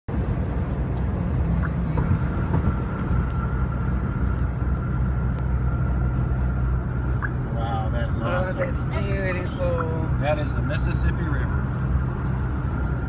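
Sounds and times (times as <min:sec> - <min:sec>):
car road and engine drone: 0:00.1 - 0:13.0.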